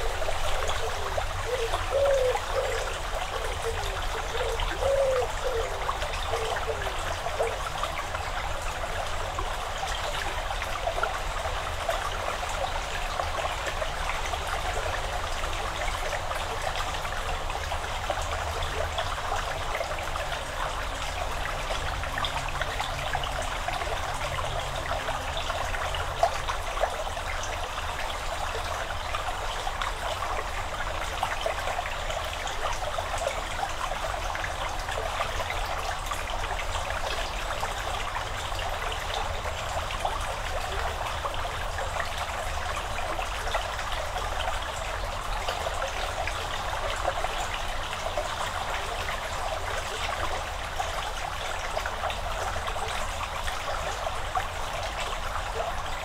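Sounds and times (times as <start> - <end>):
stream flowing and trickling: 0.0 - 56.0.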